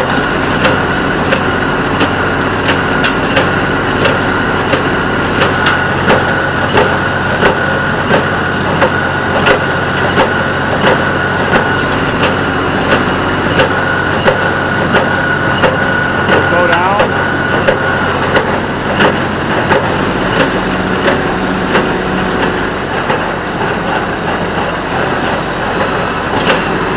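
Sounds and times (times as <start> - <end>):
tractor engine under load: 0.0 - 26.9.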